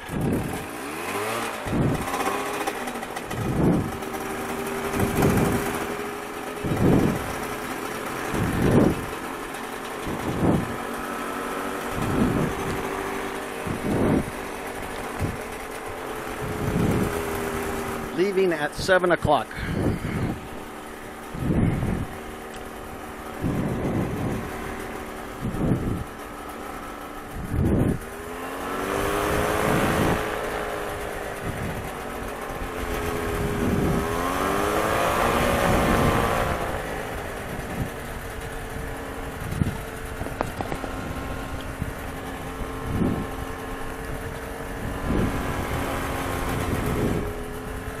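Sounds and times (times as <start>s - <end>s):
two-stroke engine running: 0.0s - 48.0s.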